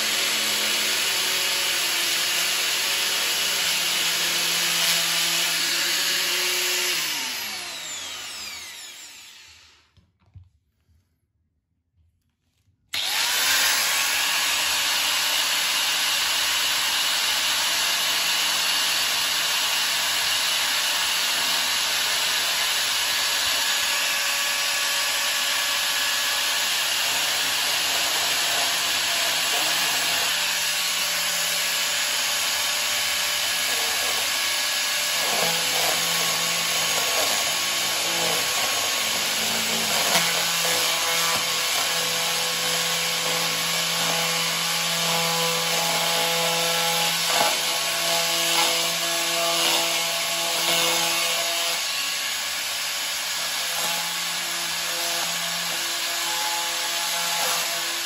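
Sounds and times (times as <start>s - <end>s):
angle grinder cutting plastic: 0.0s - 10.0s, 12.9s - 58.0s.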